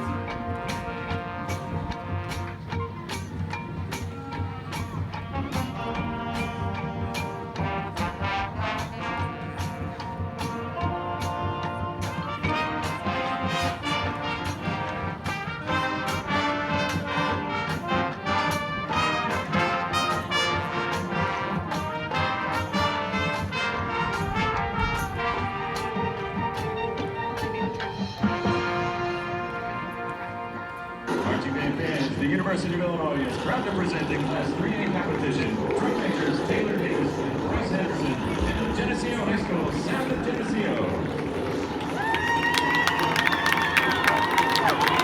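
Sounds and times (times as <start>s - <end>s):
drums keeping a steady beat: 0.0s - 45.0s
marching band brass: 0.0s - 45.0s.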